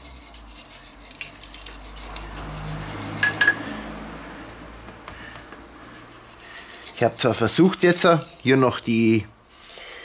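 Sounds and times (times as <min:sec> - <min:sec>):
salt mill grinding: 0:00.0 - 0:03.6, 0:05.2 - 0:10.0.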